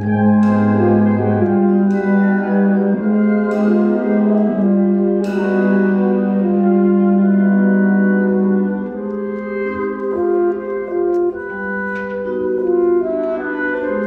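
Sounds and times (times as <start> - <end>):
brass holding a chord: 0.0 - 14.0.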